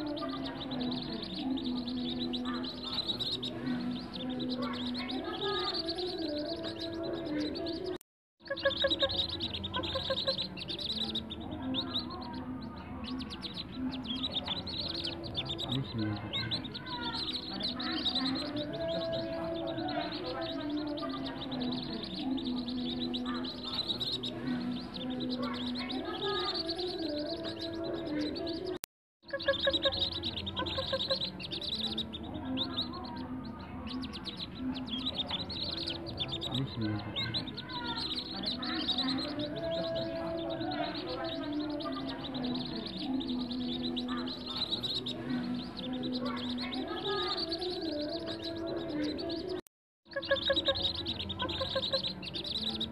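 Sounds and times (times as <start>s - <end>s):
ducklings peeping: 0.0s - 52.9s.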